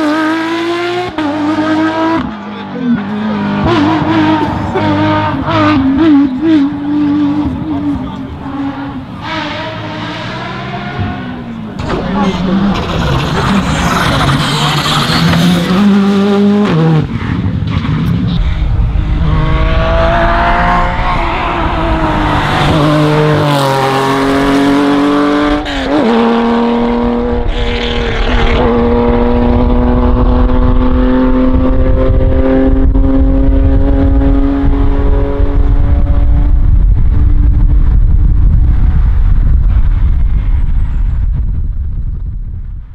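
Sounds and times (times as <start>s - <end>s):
rally car engine revving: 0.0s - 41.3s.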